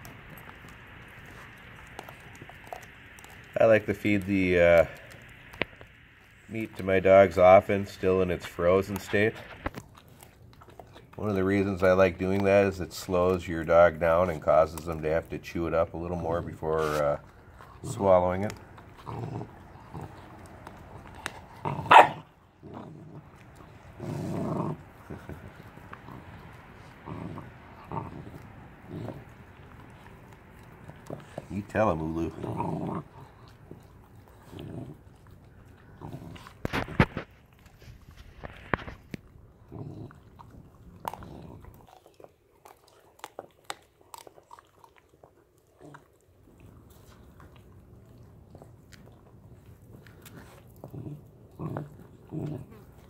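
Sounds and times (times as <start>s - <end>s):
puppies gnawing: 0.0s - 53.0s
puppy growling: 0.0s - 53.0s.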